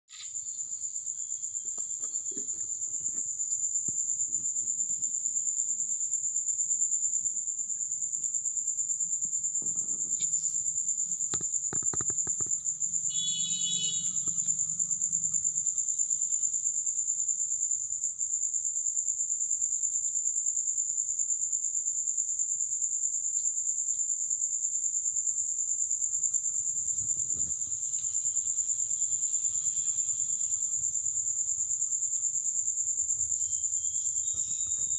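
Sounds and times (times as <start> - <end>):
crickets chirring: 0.1 - 34.9.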